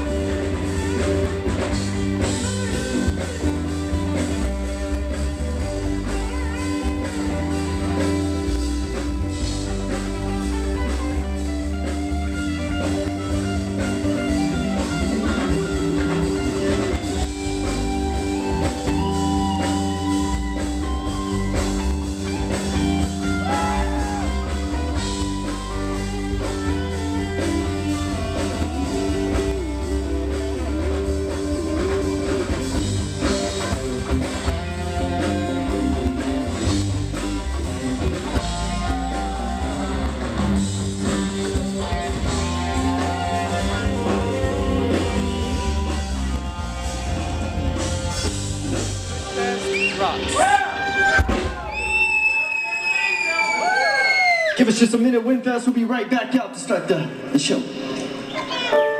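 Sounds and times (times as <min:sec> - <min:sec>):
guitar lines: 0:00.0 - 0:51.9, 0:57.5 - 0:58.9
drum kit: 0:00.0 - 0:52.4, 0:57.1 - 0:58.9
bass: 0:00.0 - 0:55.2.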